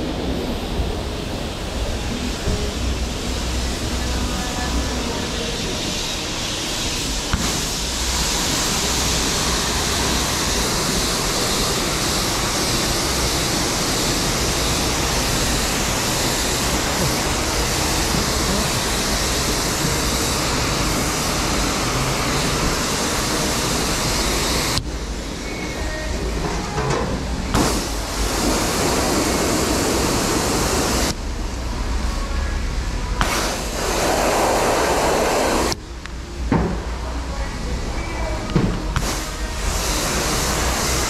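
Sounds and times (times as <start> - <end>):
pressure washer spraying water: 0.0 - 25.4, 27.5 - 31.2, 33.2 - 35.8, 39.0 - 41.0.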